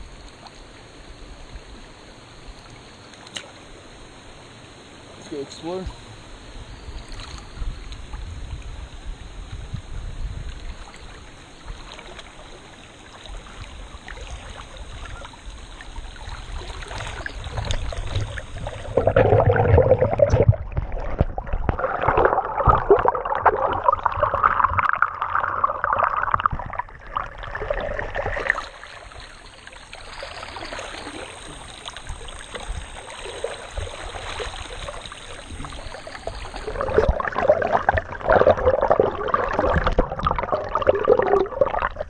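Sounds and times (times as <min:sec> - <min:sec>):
creek water gurgling and splashing: 0:00.0 - 0:04.5, 0:05.1 - 0:42.0.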